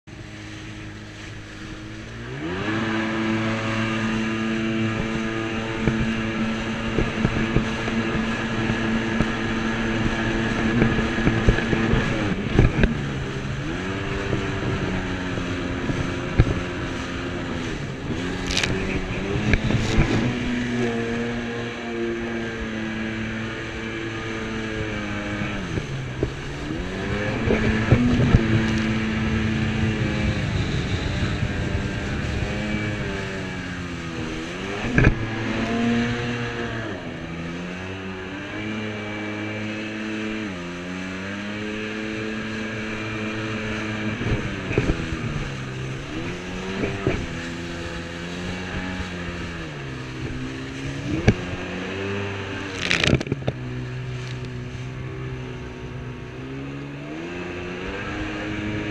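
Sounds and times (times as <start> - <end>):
jet ski engine revving: 0.1 - 58.9.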